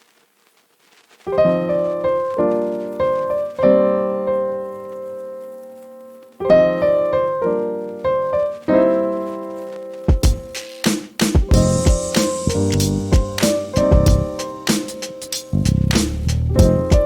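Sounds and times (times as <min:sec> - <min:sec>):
piano chords: 0:01.3 - 0:17.0.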